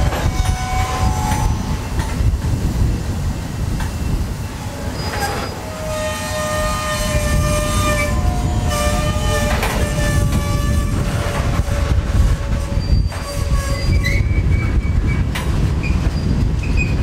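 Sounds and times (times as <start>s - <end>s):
wheels squealing on rails: 0.0s - 2.9s, 3.8s - 17.0s
freight train rumbling: 0.0s - 17.0s
train cars knocking: 0.0s - 17.0s.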